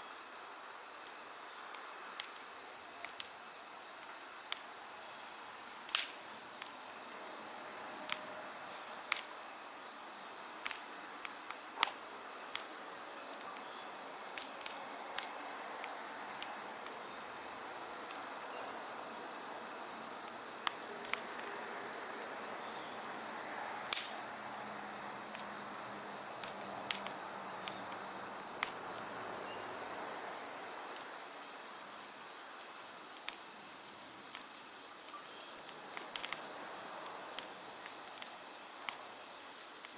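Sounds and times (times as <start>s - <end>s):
insects chirping trill: 0.0s - 39.9s
wood fire crackling and popping: 0.2s - 39.9s.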